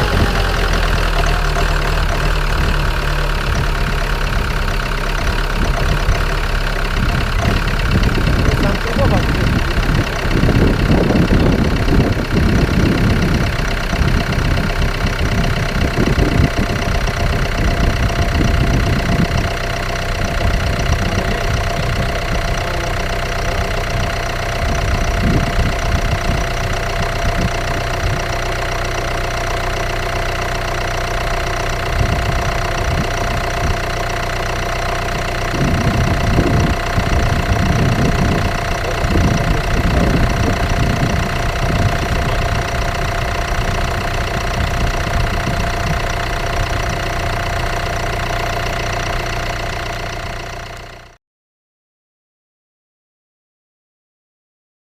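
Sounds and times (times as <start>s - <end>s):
diesel engine idling with knock: 0.0s - 51.2s.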